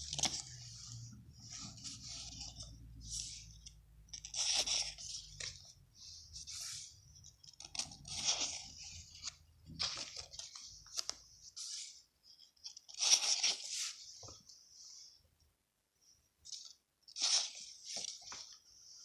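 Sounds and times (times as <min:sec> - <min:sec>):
paper rustling and crinkling: 0:00.0 - 0:14.6, 0:16.5 - 0:19.0.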